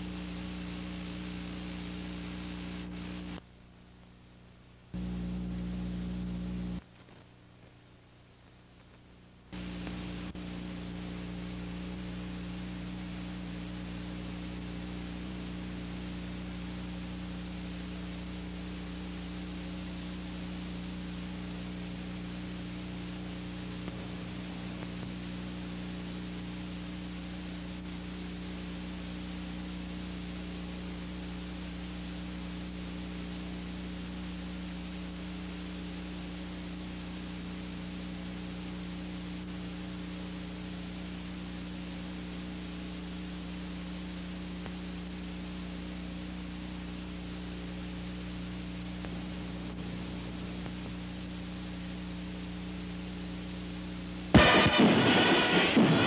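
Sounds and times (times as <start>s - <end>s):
electrical hum with hiss: 0.0s - 56.0s.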